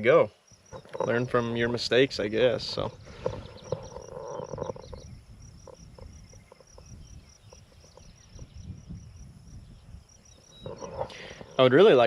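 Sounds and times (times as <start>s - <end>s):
insects chirping: 0.0s - 12.0s
wind rumble on microphone: 0.7s - 12.0s.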